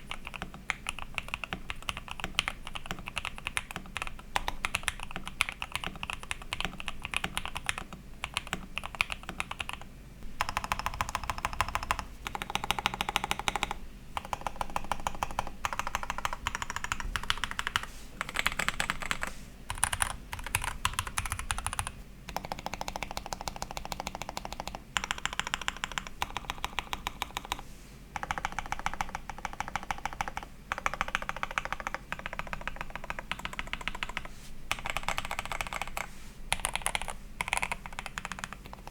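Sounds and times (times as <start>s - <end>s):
mechanical keyboard typing: 0.0s - 9.8s, 10.4s - 27.6s, 28.2s - 38.9s.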